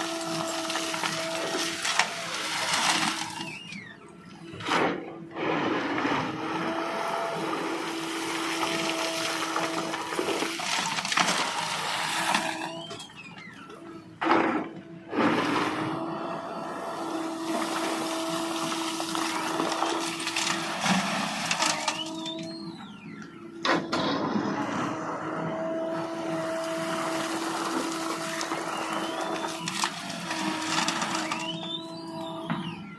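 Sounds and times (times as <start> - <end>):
backhoe engine and hydraulics hum: 0.0 - 32.9.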